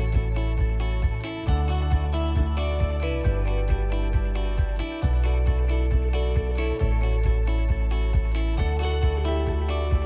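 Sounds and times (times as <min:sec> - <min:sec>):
plucked guitar: 0:00.0 - 0:10.0
steady beat: 0:00.0 - 0:10.0.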